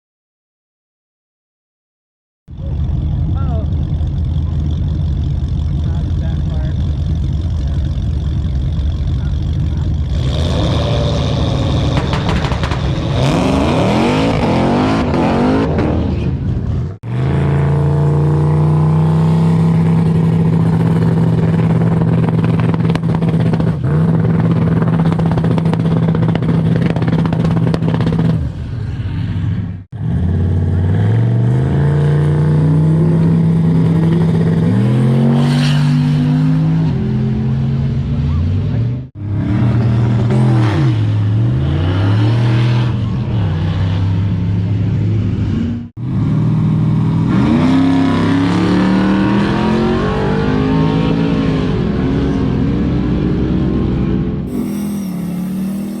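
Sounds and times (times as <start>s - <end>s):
loud car engine revving: 2.5s - 28.7s, 29.9s - 56.0s.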